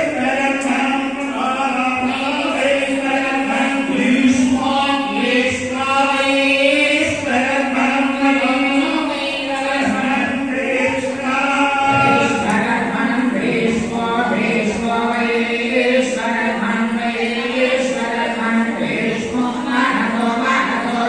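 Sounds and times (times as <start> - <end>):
group chanting in unison: 0.0 - 21.0.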